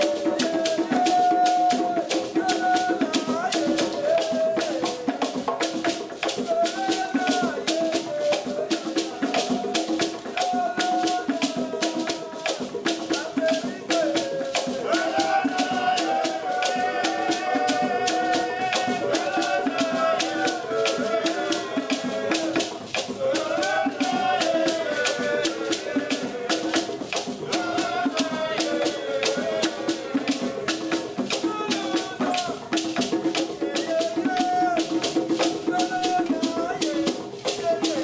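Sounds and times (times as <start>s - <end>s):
gourd shaker rattling: 0.0s - 38.0s
hand drums playing fast rhythm: 0.0s - 38.0s
voices chanting: 0.0s - 38.0s.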